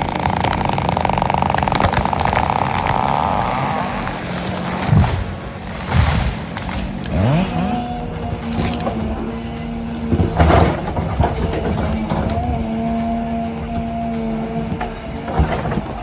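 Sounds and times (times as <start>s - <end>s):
machine engine revving: 0.0s - 16.0s.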